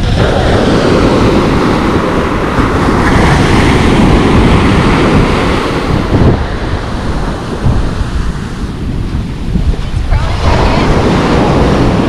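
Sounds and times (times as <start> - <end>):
waves breaking and washing on sand: 0.0 - 12.0
wind buffeting microphone: 0.0 - 12.0.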